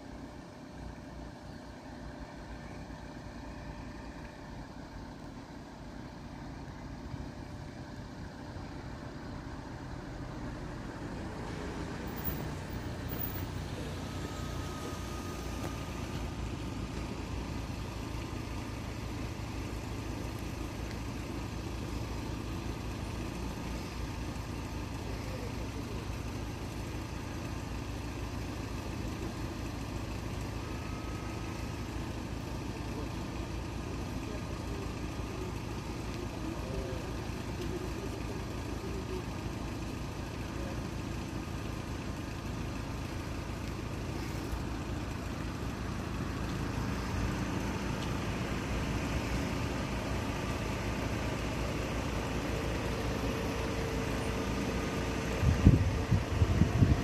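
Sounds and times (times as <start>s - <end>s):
car engines idling: 0.0s - 57.0s.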